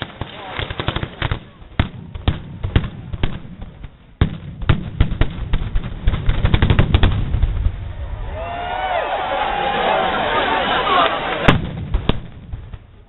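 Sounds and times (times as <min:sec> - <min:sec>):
firecrackers cracking: 0:00.0 - 0:09.7, 0:10.3 - 0:13.0.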